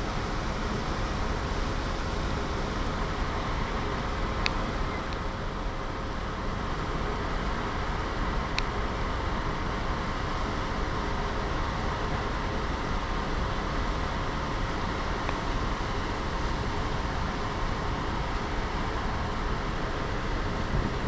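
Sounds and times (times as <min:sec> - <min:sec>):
faint steady hum: 0:00.0 - 0:21.0
ferry engine rumble: 0:00.0 - 0:21.0
wind: 0:00.0 - 0:21.0.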